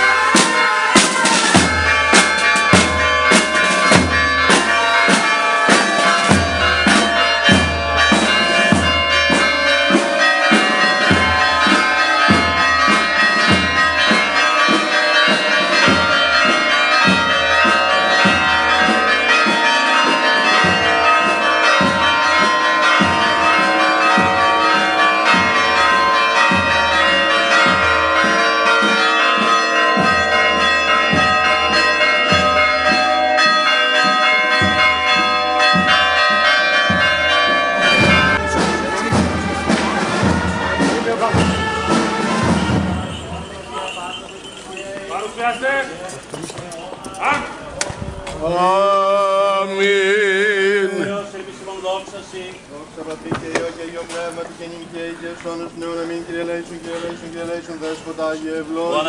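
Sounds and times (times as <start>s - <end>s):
church bells pealing: 0.0s - 47.7s, 48.4s - 59.0s.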